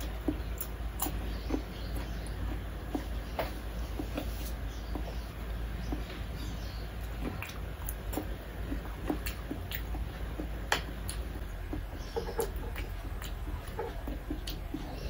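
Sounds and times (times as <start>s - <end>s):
person chewing and lip-smacking: 0.0s - 6.2s, 6.9s - 15.0s.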